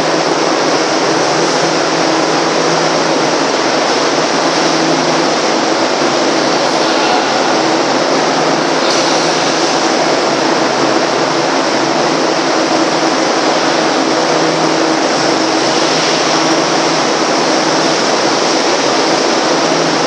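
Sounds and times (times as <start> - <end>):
machinery roar: 0.0 - 20.0.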